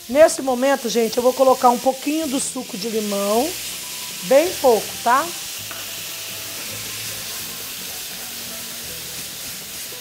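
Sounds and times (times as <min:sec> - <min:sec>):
liquid hissing as steam: 0:00.0 - 0:10.0
meat sizzling in a frying pan: 0:00.0 - 0:10.0.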